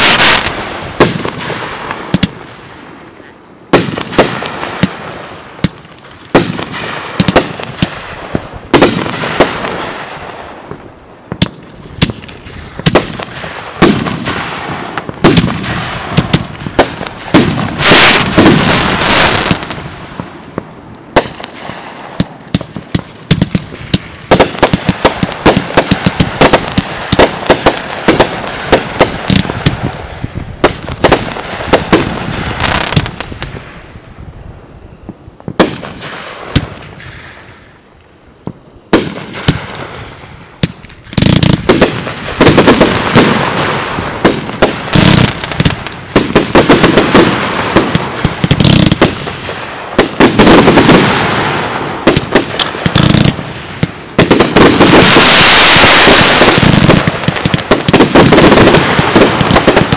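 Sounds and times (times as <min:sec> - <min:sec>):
fireworks bursting: 0:00.0 - 0:34.1, 0:34.8 - 0:59.9.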